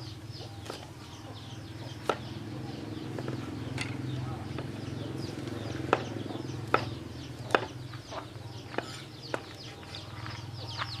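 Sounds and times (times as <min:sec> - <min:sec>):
chickens chirping: 0:00.0 - 0:11.0
steady low hum: 0:00.0 - 0:11.0.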